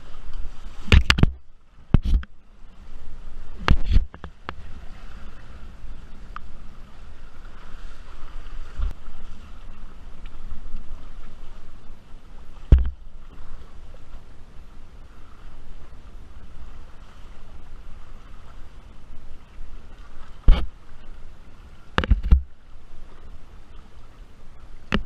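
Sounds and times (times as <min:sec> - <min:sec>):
water splashing: 0:00.0 - 0:25.0.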